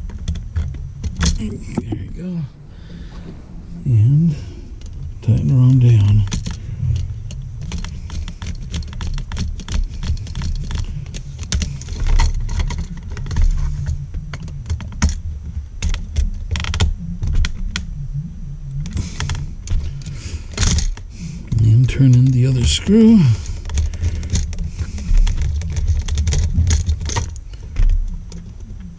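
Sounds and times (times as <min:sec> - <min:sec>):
low rumble: 0:00.0 - 0:28.9.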